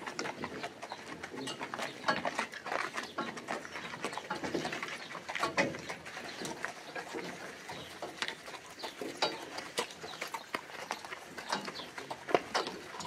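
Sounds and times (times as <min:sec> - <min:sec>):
harness and carriage clicks: 0:00.0 - 0:13.0
horse hoofbeats on dirt: 0:00.0 - 0:13.0.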